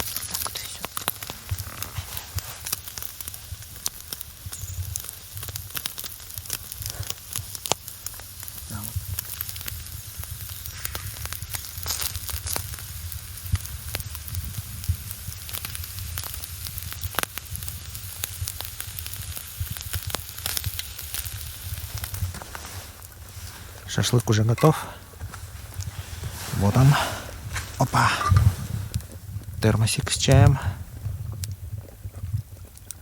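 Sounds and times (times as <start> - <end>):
meat sizzling on skewers: 0.0 - 24.9, 25.5 - 30.7
campfire crackling and popping: 0.0 - 33.0.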